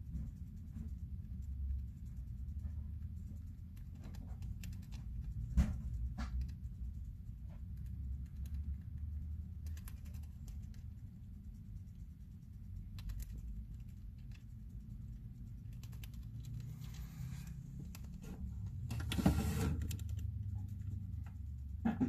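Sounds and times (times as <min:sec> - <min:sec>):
hamster crunching cabbage: 0:00.0 - 0:22.0.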